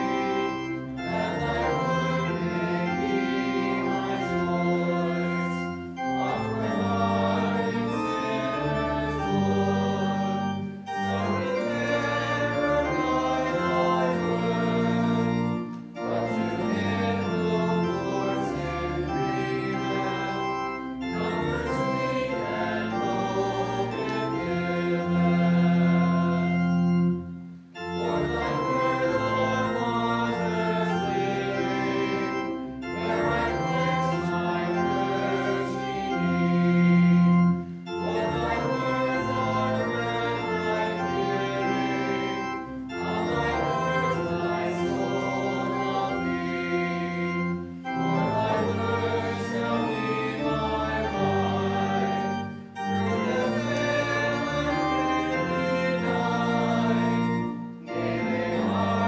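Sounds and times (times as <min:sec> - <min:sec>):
church organ playing: 0:00.0 - 0:59.0
congregation singing: 0:00.0 - 0:59.0.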